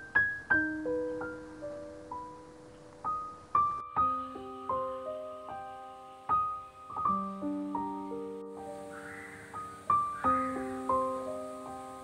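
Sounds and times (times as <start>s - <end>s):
slow soft piano music: 0.0s - 12.0s.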